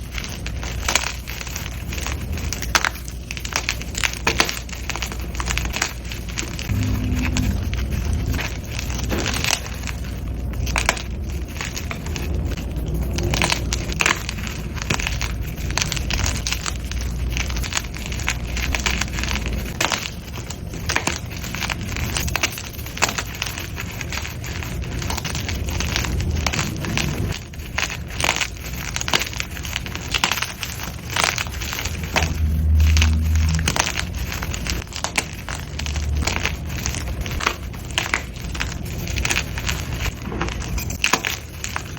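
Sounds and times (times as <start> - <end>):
chalk blocks crunching: 0.0 - 41.9.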